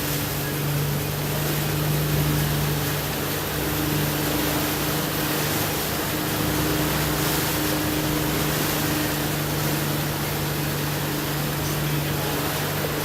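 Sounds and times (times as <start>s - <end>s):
constant rushing noise: 0.0s - 13.0s
low machine hum: 0.0s - 13.0s.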